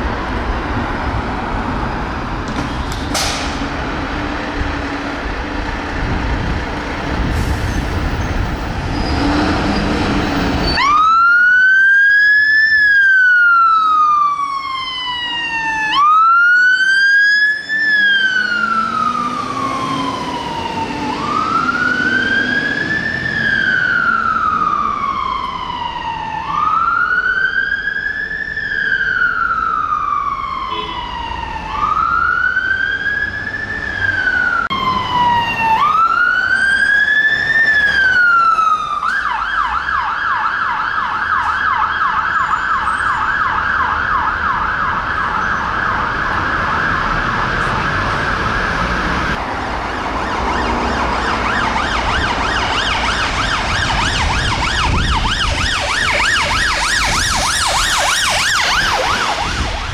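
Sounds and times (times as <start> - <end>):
street traffic noise: 0.0 - 59.9
fire engine siren wailing: 3.4 - 59.9.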